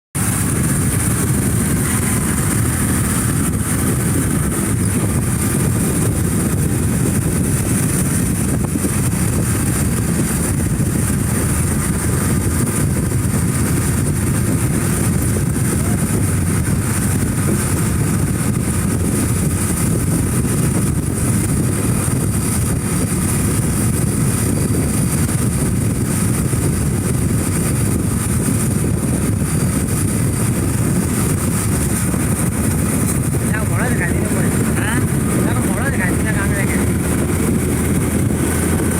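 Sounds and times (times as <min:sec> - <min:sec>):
motorcycle engine and road noise: 0:00.2 - 0:38.9.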